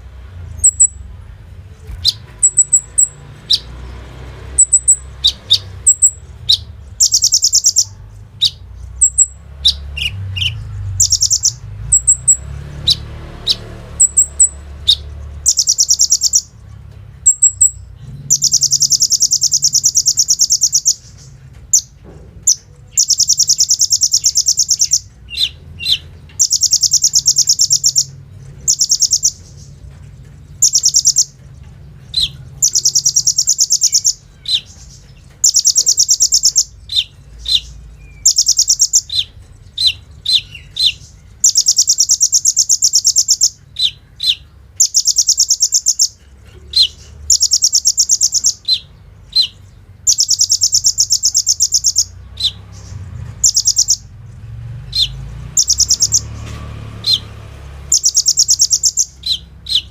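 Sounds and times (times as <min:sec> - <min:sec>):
bird chirps: 0:00.3 - 0:01.2, 0:01.8 - 0:59.9
bird rattling trills: 0:04.5 - 0:16.6, 0:17.2 - 0:54.1, 0:54.9 - 0:59.9.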